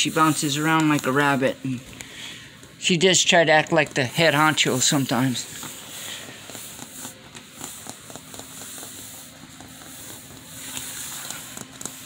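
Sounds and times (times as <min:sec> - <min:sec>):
kitten claws scratching on wooden floor: 0:00.0 - 0:12.0
steady low hum: 0:00.0 - 0:12.0.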